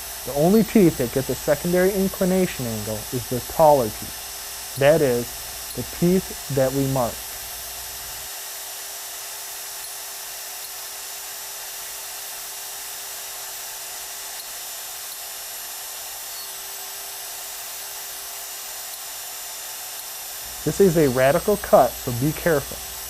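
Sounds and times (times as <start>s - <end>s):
machine motor whining: 0.0s - 8.4s, 9.0s - 23.0s.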